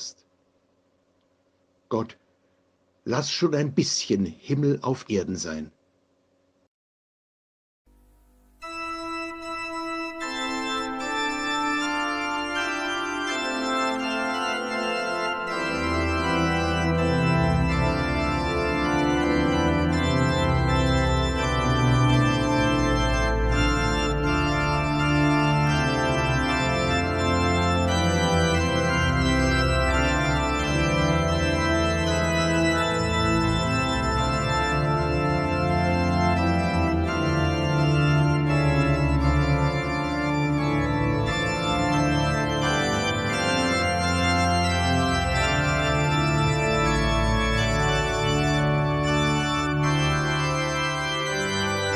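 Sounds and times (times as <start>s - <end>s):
organ playing sustained chords: 8.6s - 51.9s.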